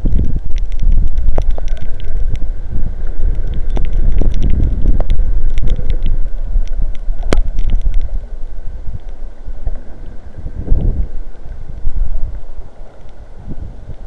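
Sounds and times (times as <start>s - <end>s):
rain ticks on camera: 0.0s - 14.0s
wind buffeting microphone: 0.0s - 14.0s.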